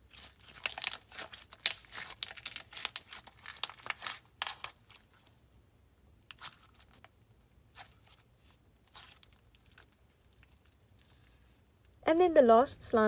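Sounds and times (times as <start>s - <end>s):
slime squishing sticky crackles: 0.0s - 5.4s, 6.3s - 11.6s.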